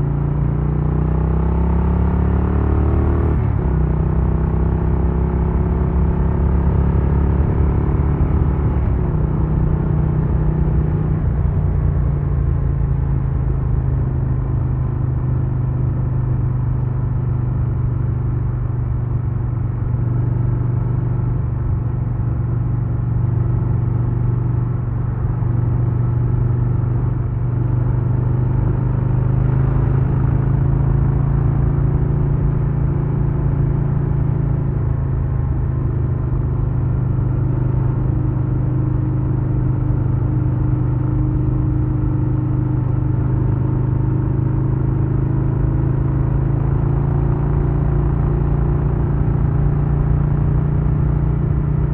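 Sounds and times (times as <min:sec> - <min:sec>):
motorcycle engine and exhaust: 0:00.0 - 0:51.9.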